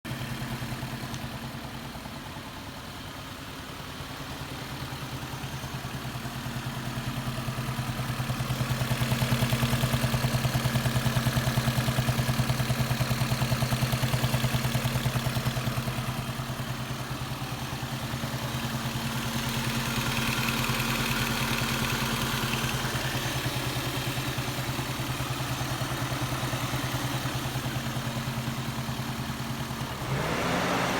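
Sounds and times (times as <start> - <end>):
car engine idling with knocking: 0.1 - 30.9.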